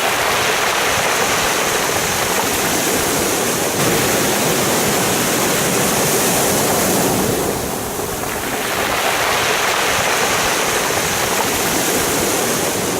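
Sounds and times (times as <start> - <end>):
waves washing over pebbles: 0.0 - 12.9.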